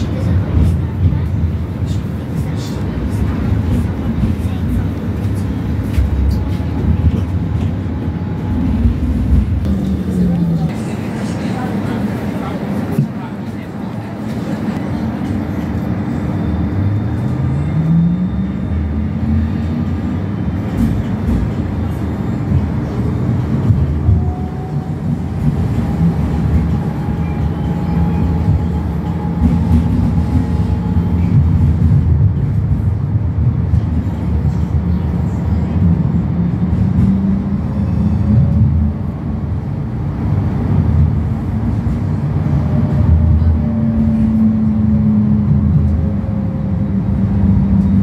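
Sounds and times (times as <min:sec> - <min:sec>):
tram wheels rumbling on rails: 0:00.0 - 0:48.0.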